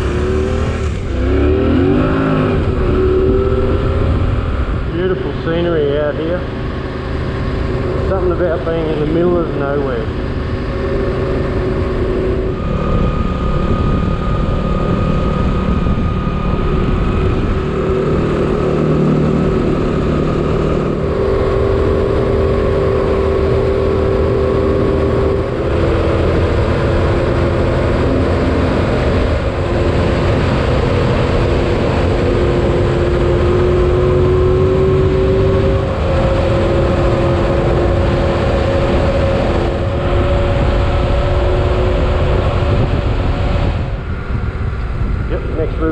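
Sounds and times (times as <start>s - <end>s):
motorcycle engine running: 0.0s - 45.9s
wind noise: 0.0s - 45.9s.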